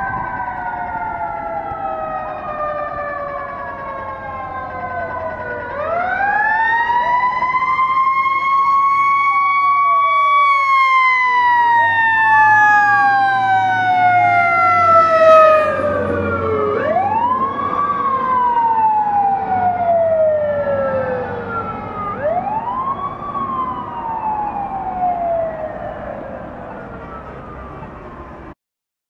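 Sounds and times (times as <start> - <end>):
fire engine siren wailing: 0.0 - 28.6.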